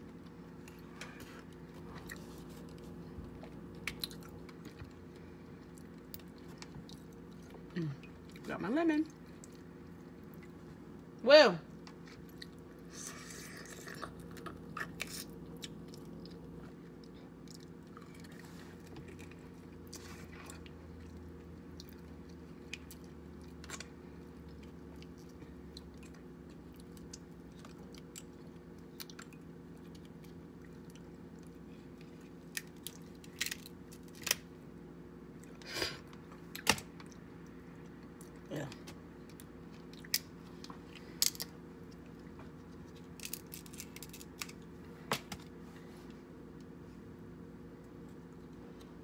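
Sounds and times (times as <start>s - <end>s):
steady low hum: 0.0s - 49.0s
chewing crab legs: 0.1s - 8.5s, 9.1s - 44.8s.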